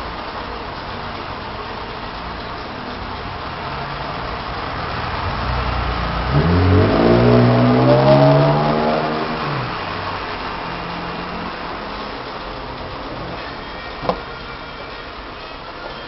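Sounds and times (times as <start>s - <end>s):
vehicle engine accelerating: 0.0s - 14.7s.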